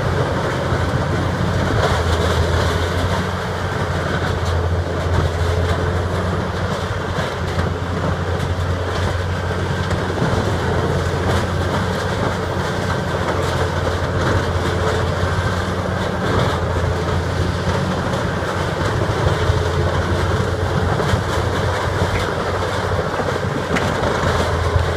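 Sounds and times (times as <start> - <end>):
grinding clatter: 0.0 - 24.9
low engine drone: 0.0 - 24.9.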